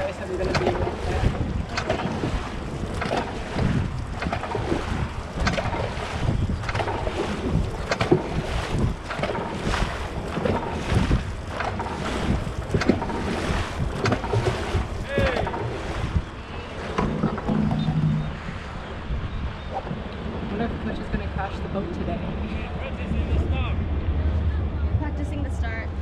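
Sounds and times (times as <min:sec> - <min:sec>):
paddles splashing water: 0:00.0 - 0:23.5
wind buffeting microphone: 0:00.0 - 0:26.0.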